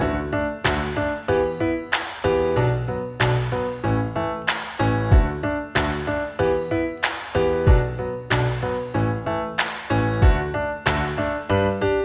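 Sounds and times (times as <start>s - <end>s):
background music with steady beat: 0.6s - 3.8s, 4.4s - 11.8s.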